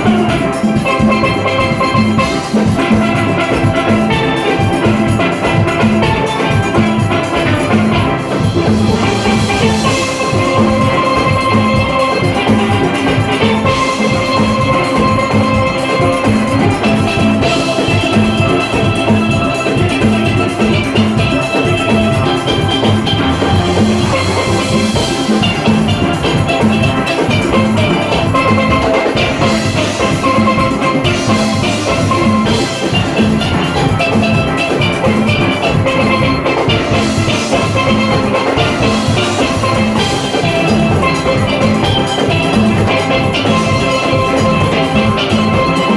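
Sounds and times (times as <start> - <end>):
percussion and drum kit beat: 0.0 - 45.9
steelpans playing melody: 0.0 - 45.9.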